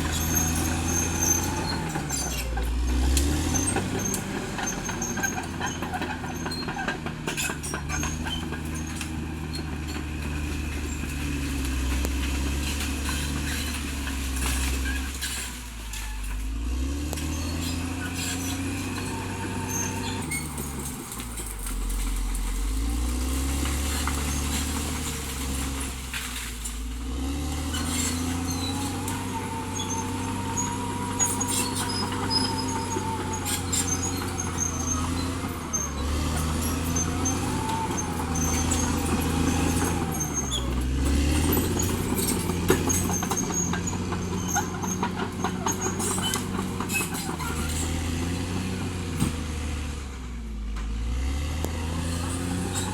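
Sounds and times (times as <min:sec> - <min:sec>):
bulldozer diesel engine working: 0:00.0 - 0:52.9.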